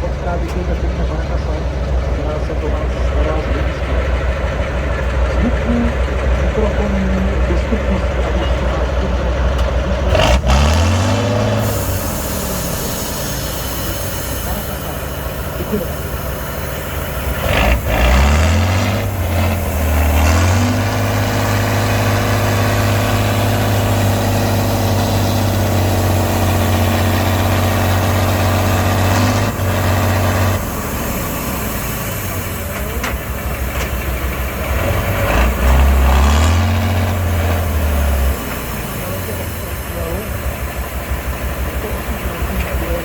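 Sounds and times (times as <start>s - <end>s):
truck diesel engine revving: 0.0s - 43.0s.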